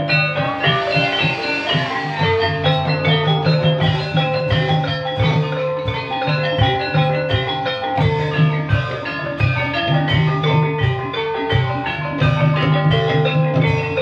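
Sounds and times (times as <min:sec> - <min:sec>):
hand drum strokes: 0:00.0 - 0:14.0
metallophones ringing: 0:00.0 - 0:14.0.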